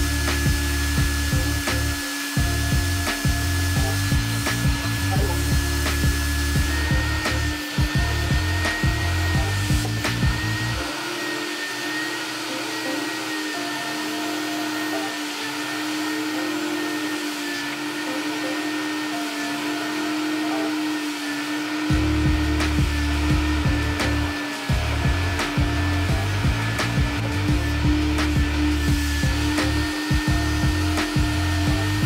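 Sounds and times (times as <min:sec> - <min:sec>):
background music: 0:00.0 - 0:32.0
vacuum motor whirring: 0:00.0 - 0:32.0.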